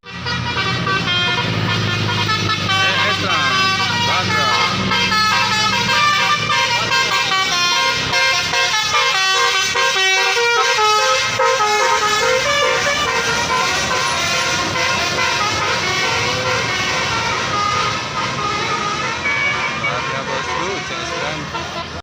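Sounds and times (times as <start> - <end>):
bus engine running: 0.0 - 22.0
melodic bus horn: 0.0 - 22.0.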